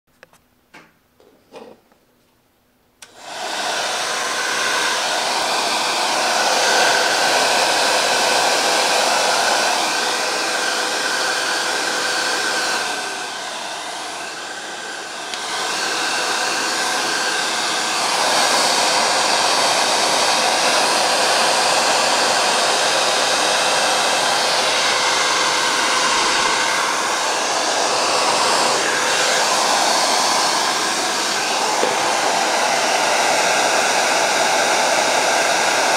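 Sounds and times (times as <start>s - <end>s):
hair dryer blowing: 3.0s - 35.9s.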